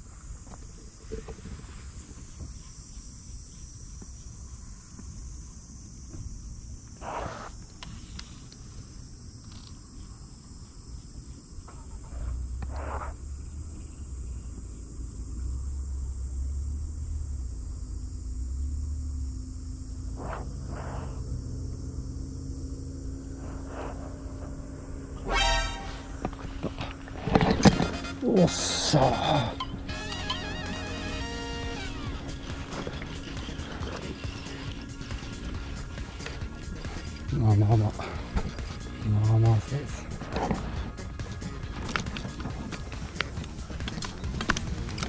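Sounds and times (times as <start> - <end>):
insects buzzing: 0.0 - 45.0.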